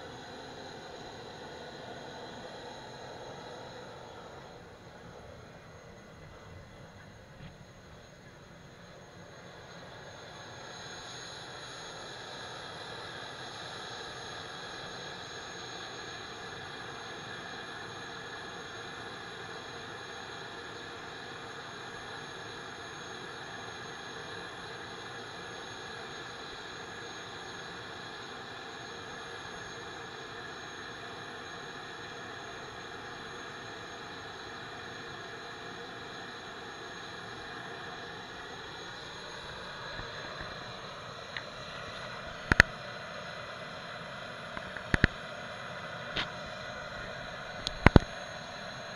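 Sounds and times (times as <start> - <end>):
gas turbine whine and hiss: 0.0 - 48.9.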